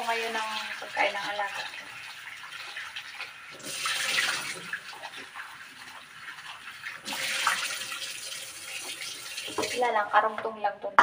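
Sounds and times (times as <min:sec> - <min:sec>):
tap water splashing into sink: 0:00.0 - 0:09.9.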